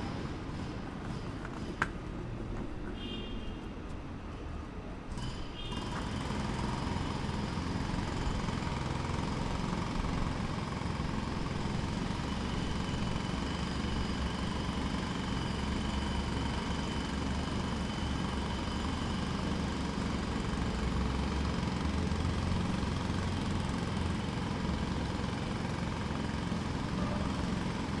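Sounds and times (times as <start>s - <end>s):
jackhammer breaking concrete: 5.1s - 28.0s.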